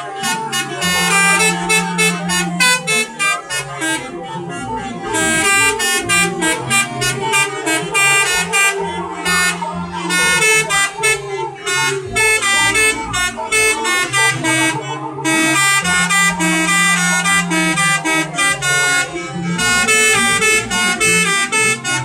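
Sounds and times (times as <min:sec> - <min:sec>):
electric bus horns playing tune: 0:00.0 - 0:22.0.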